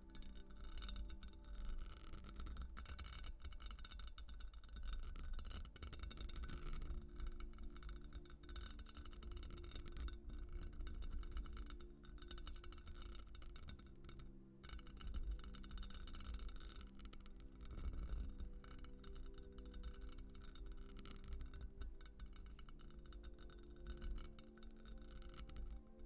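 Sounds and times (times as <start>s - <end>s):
scratching on textured glass: 0.0s - 26.0s
soft background music: 0.0s - 26.0s.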